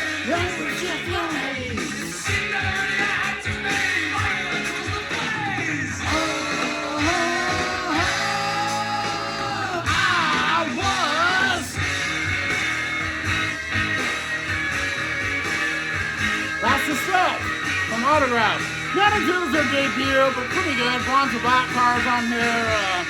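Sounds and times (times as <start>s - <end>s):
rock song with singer: 0.0s - 23.0s.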